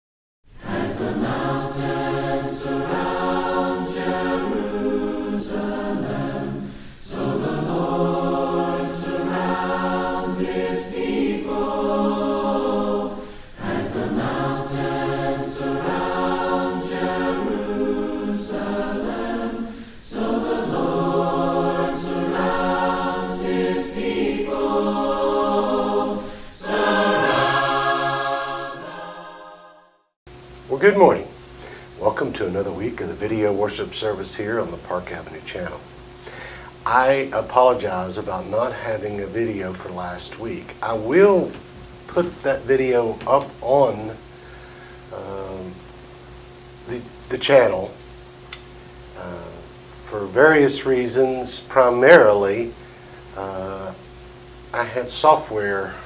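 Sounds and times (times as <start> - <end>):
choir singing a cappella: 0.5 - 30.2, 32.0 - 45.8, 49.2 - 54.1, 54.7 - 56.0.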